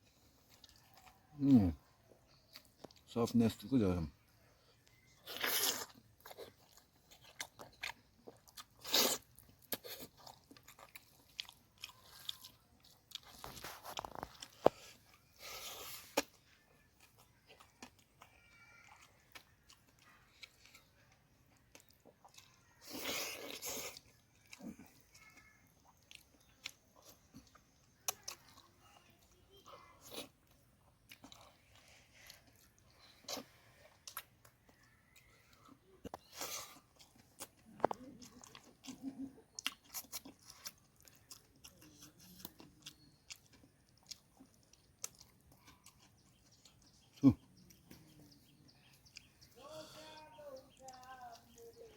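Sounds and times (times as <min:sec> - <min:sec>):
person chewing food: 0:00.0 - 0:03.1, 0:04.2 - 0:51.9
food crunching: 0:00.0 - 0:51.9.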